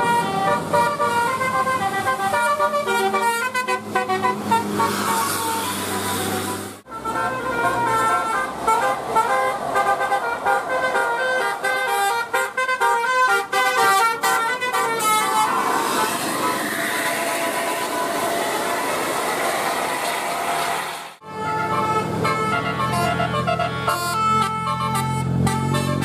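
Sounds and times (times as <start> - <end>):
multi-tone bus horn tune: 0.0 - 26.0.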